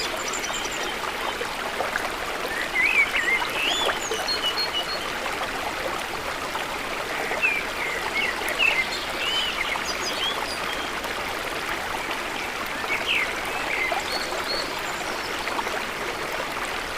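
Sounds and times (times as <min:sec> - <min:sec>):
flowing water rushing: 0:00.0 - 0:16.9.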